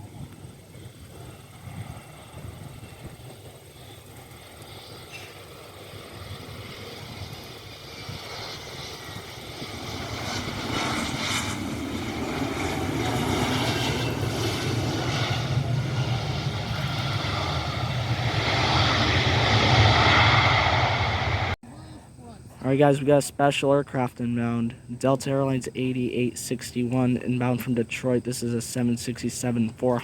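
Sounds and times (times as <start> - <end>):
airliner engines rumbling with whine: 0.0 - 30.0.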